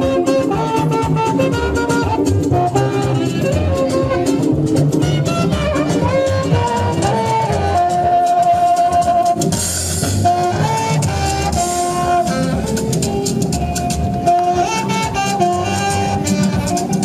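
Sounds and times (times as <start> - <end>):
backing drum beat: 0.0 - 17.0
saxophone melody: 0.0 - 17.0.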